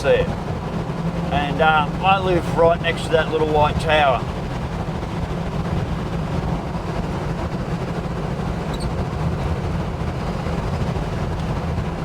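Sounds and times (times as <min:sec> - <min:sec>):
car engine hum: 0:00.0 - 0:12.0
tyre and road noise: 0:00.0 - 0:12.0.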